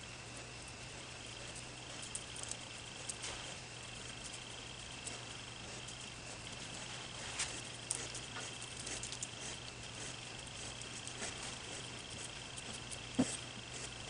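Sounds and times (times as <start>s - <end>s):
steady high-pitched hum: 0.0s - 14.0s.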